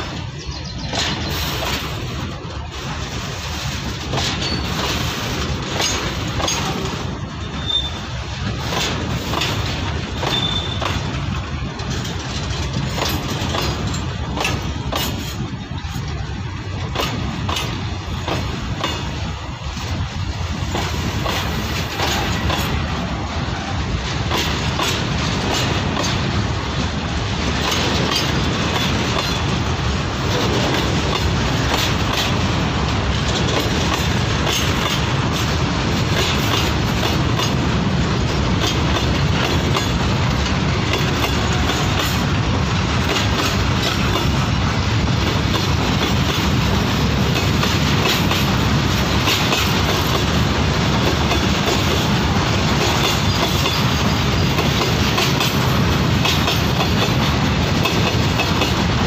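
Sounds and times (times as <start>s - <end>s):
wheels clicking over track: 0.0s - 20.0s, 24.0s - 59.0s
train wheels rumbling on rail: 0.0s - 59.0s.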